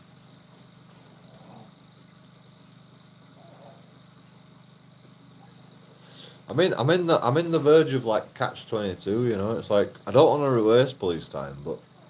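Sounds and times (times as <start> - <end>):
faint low electrical hum: 0.0 - 12.0.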